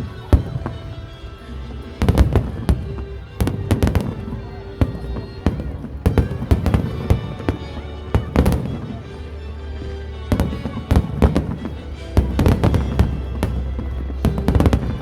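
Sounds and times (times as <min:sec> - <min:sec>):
fireworks exploding: 0:00.0 - 0:15.0
music: 0:00.0 - 0:15.0.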